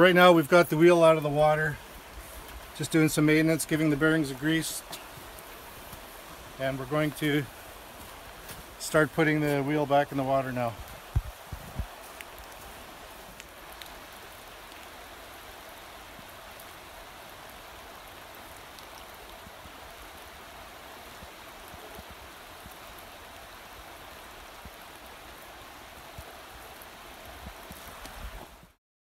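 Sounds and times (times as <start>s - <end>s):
river rushing: 0.0s - 28.8s.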